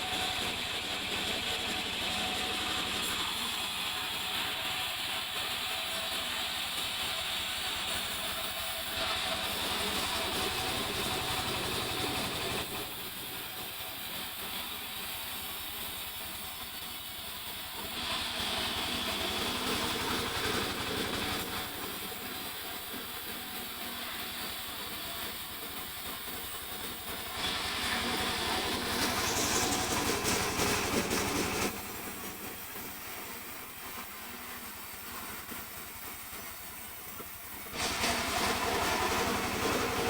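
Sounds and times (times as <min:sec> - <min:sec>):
sawmill saw cutting logs: 0:00.0 - 0:40.0.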